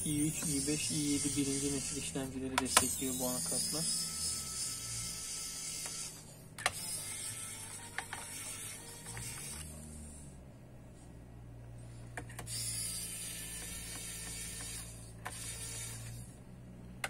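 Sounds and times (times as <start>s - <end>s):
small electric motor whirring: 0.0s - 10.4s, 12.2s - 17.0s.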